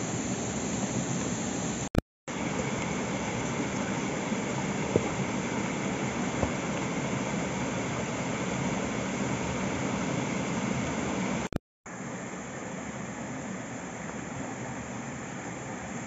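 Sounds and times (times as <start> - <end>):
stream water flowing: 2.3 - 16.0.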